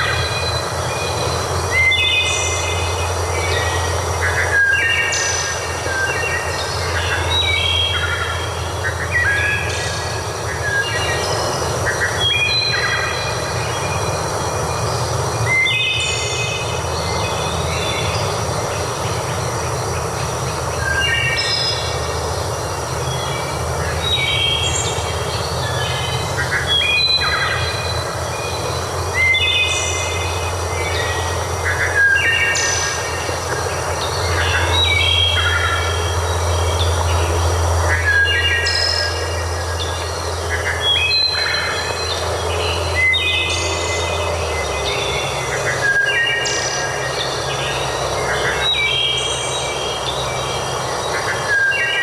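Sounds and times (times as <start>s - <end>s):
birds calling: 0.0s - 52.0s.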